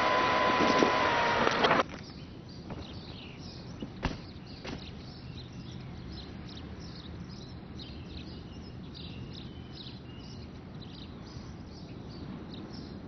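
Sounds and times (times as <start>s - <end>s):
low outdoor background hum: 0.0s - 13.0s
birds chirping and whistling: 1.9s - 13.0s.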